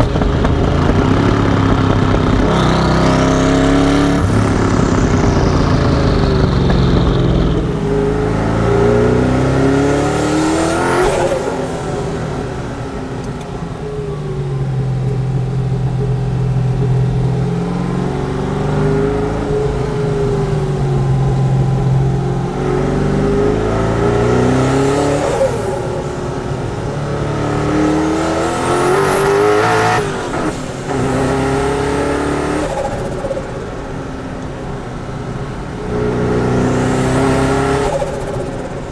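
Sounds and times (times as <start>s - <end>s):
car engine revving hard: 0.0s - 38.9s
exhaust burst: 0.7s - 38.9s.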